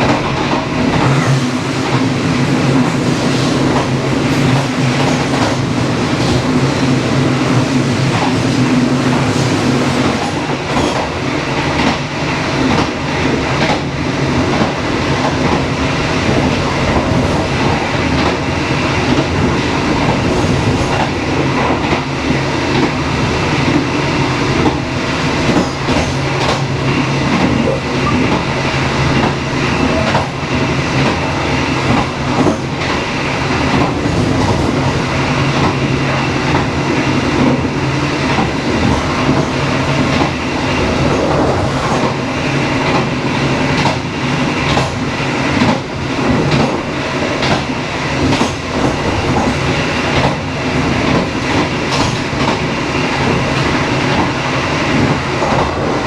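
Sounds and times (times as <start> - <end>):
train rumbling along track: 0.0 - 56.0.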